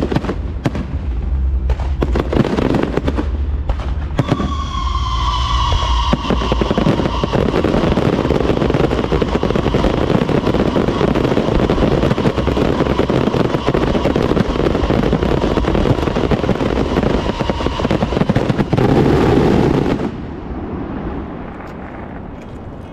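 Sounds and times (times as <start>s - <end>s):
fireworks barrage bangs and crackling: 0.0s - 22.8s.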